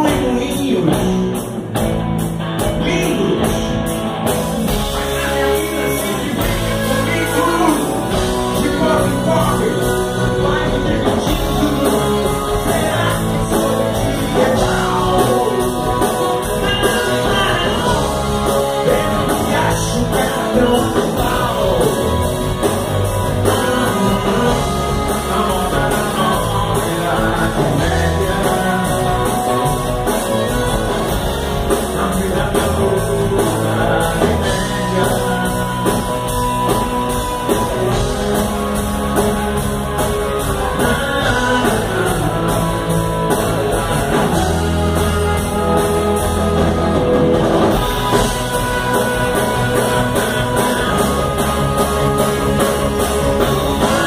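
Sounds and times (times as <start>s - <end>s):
live blues-rock band: 0.0s - 54.0s
saxophone lead: 4.7s - 54.0s.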